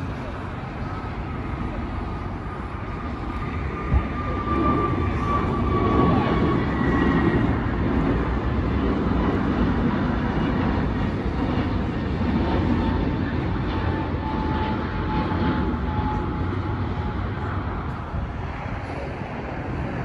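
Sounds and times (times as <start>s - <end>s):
jet engine rumble: 0.0s - 20.0s.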